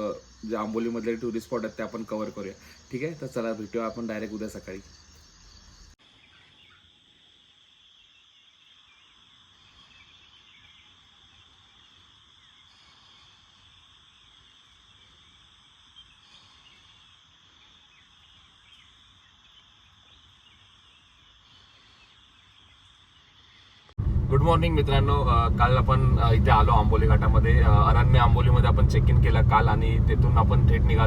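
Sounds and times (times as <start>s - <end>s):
crickets and night insects trilling: 0.0s - 31.0s.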